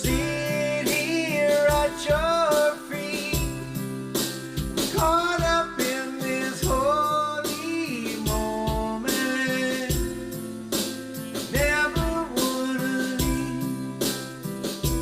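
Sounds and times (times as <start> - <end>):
person singing: 0.0 - 3.8, 4.8 - 10.4, 11.3 - 14.2
drums: 0.0 - 15.0
guitar: 0.0 - 15.0.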